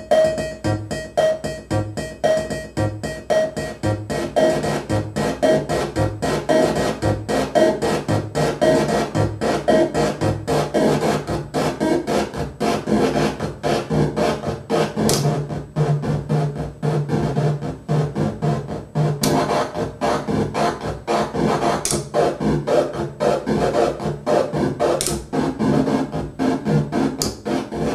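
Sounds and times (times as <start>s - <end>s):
glitchy pulsing noise machine: 0.0s - 27.9s.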